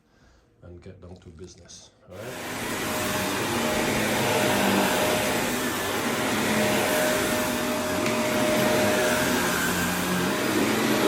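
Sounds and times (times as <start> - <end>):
vacuum cleaner running on rug: 2.1 - 11.0.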